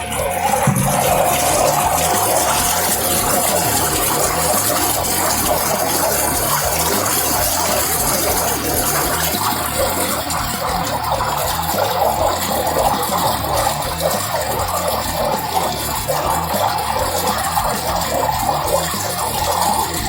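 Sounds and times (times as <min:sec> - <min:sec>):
gushing water: 0:00.0 - 0:20.0.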